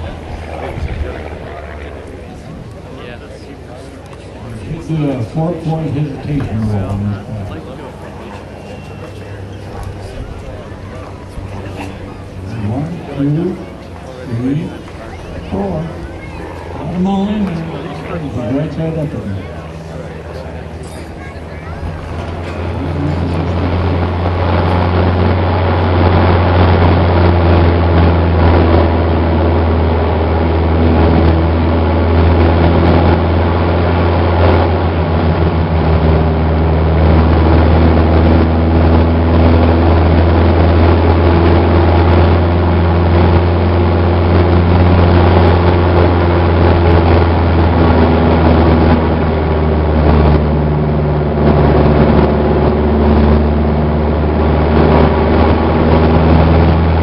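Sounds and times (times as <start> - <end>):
propeller aircraft engine: 0.0 - 57.0.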